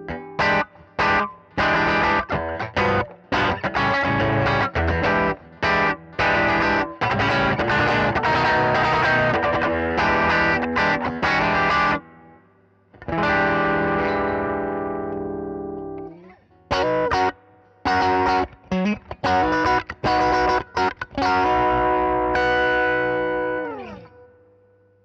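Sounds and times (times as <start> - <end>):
electric guitar chords: 0.0 - 24.8.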